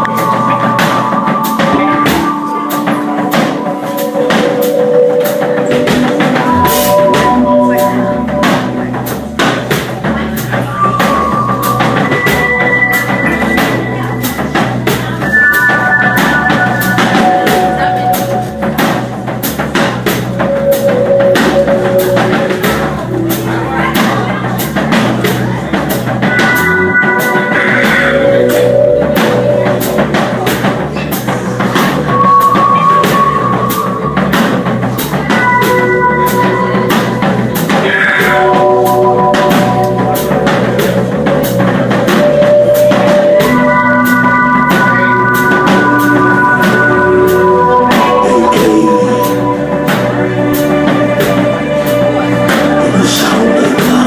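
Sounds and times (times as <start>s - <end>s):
drum kit beat: 0.0s - 54.0s
live band playing: 0.0s - 54.0s.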